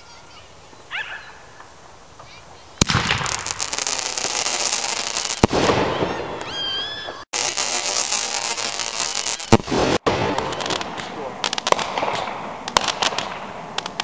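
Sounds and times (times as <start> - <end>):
firework bangs: 1.5 - 14.0
firework crackling: 1.5 - 14.0.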